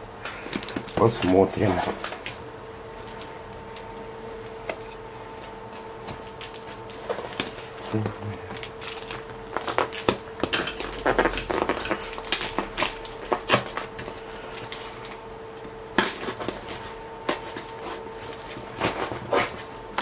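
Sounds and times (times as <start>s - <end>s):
packaging crackling and rustling: 0.3s - 2.4s, 5.8s - 20.0s.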